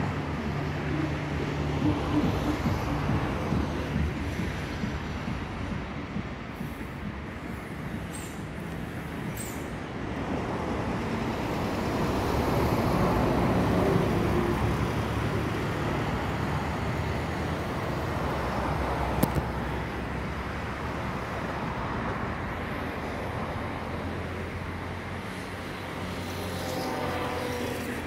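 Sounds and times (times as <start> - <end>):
road traffic noise: 0.0 - 28.0
vehicle passing: 0.0 - 28.0.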